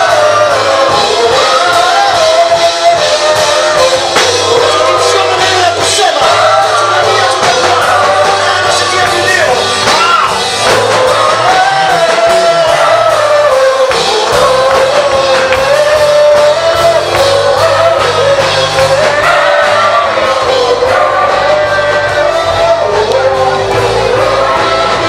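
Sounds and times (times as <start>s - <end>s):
group singing gospel: 0.0s - 25.0s
instrumental backing with bass: 0.0s - 25.0s.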